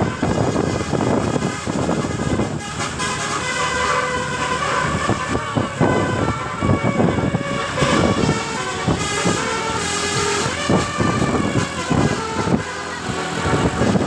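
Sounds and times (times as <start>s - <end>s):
bus musical air horn: 0.0s - 14.0s
rumbling vehicle noise: 0.0s - 14.0s.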